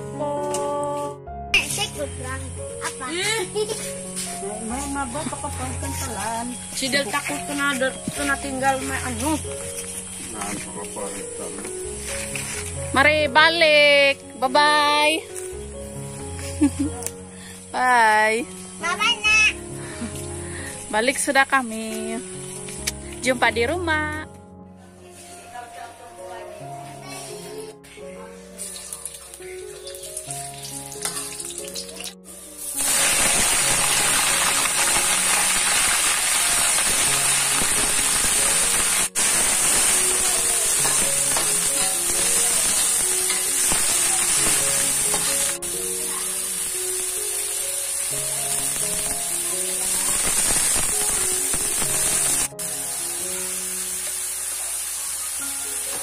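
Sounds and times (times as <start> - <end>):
soft background music: 0.0 - 56.0
food sizzling in a hot pan: 1.6 - 16.9, 17.6 - 22.8, 28.6 - 56.0.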